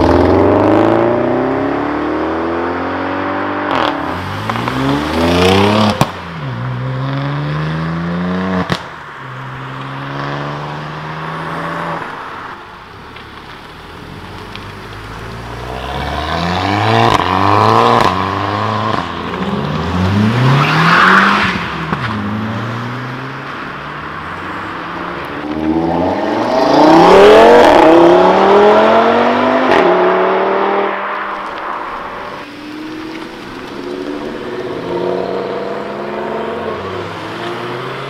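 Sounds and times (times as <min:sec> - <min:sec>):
car engines accelerating past: 0:00.0 - 0:12.1, 0:14.6 - 0:38.0.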